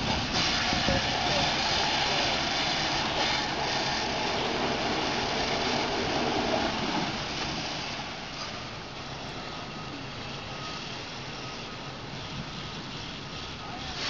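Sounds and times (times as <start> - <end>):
hose spraying water: 0.0 - 14.0.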